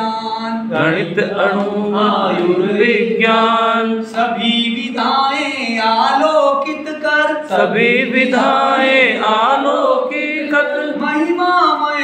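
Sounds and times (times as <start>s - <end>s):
person chanting verse: 0.0s - 12.0s.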